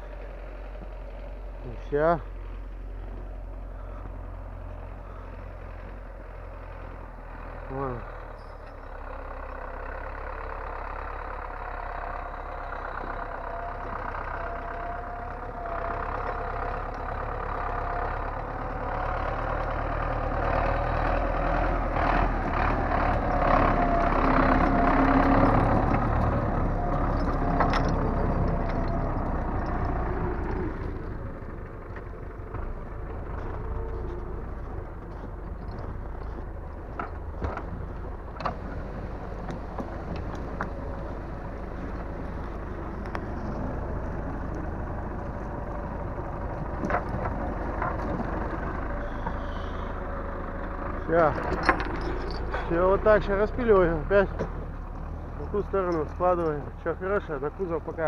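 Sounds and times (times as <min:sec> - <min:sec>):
diesel crane engine running: 0:00.0 - 0:58.0.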